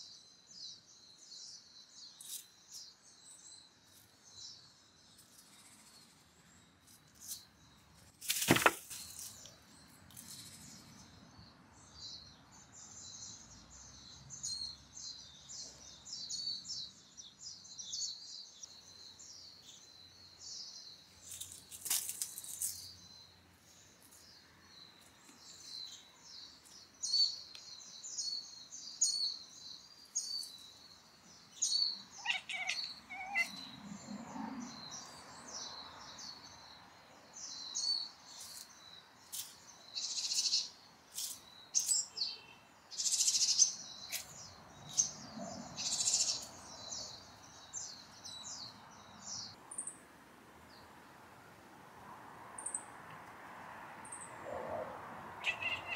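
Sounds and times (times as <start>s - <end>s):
small birds chirping: 0.0s - 51.4s, 52.6s - 52.9s, 55.4s - 55.9s.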